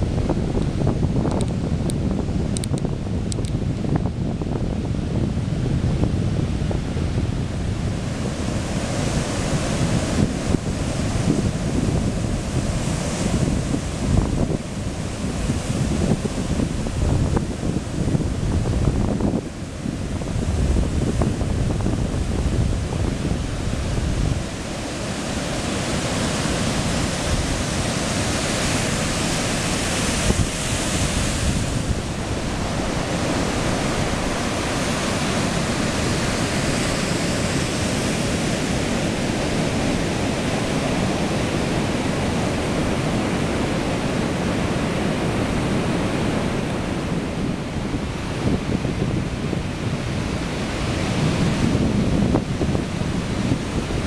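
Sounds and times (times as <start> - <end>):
ocean waves breaking on beach: 0.0 - 54.0
wind buffeting microphone: 0.0 - 54.0.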